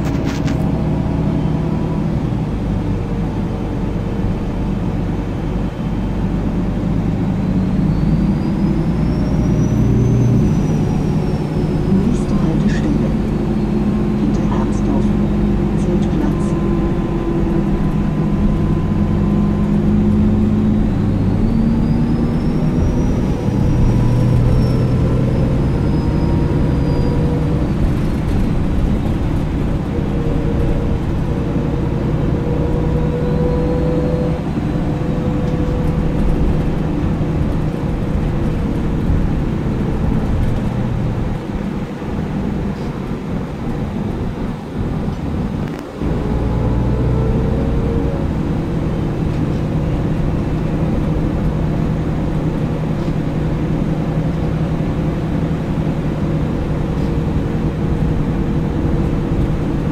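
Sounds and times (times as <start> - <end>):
bus diesel engine: 0.0 - 59.9
road noise: 0.0 - 59.9.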